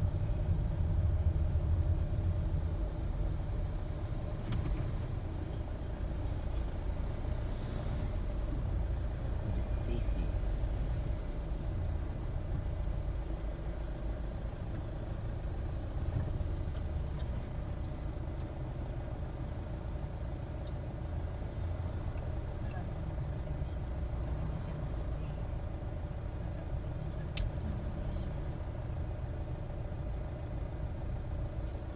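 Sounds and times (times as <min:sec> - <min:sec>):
car engine rumble and road noise: 0:00.0 - 0:31.9.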